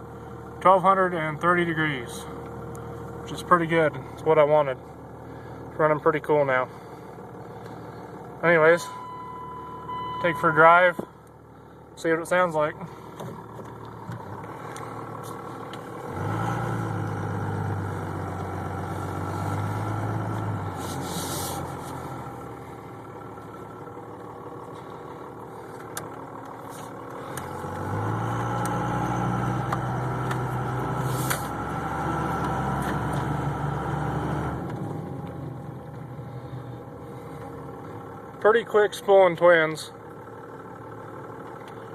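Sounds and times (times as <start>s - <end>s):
diesel engine accelerating: 0.0s - 41.9s.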